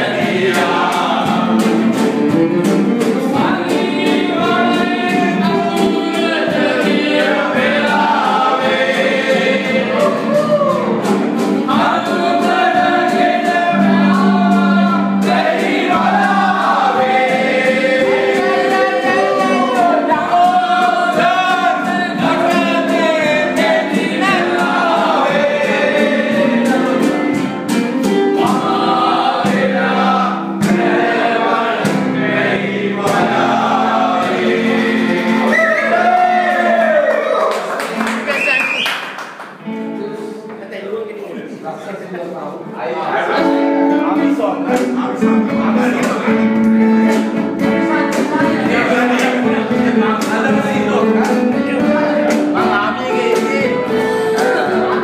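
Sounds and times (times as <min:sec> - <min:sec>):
men singing together: 0:00.0 - 0:37.3, 0:43.1 - 0:55.0
acoustic guitar: 0:00.0 - 0:55.0.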